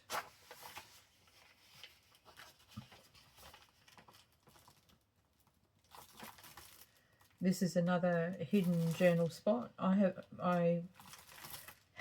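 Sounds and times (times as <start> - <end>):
paper rustling: 0.0 - 7.4, 8.5 - 9.4, 10.5 - 12.0.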